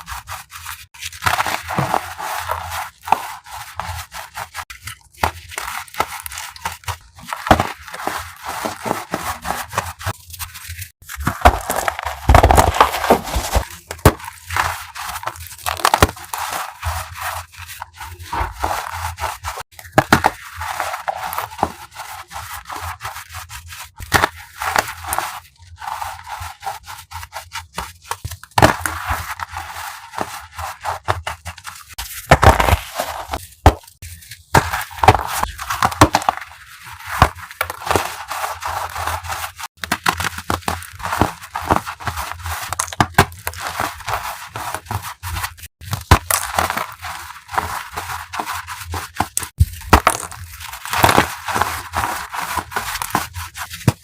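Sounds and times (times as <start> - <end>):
chalk crunching by hand: 0.0 - 54.0.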